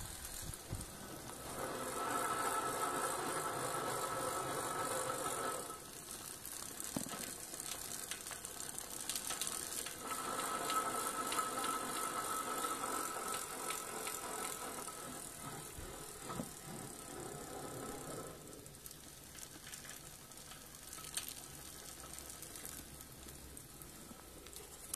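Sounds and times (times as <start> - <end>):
bicycle hub clicking: 0.0 - 24.9
bicycle wheel whine: 0.0 - 24.9.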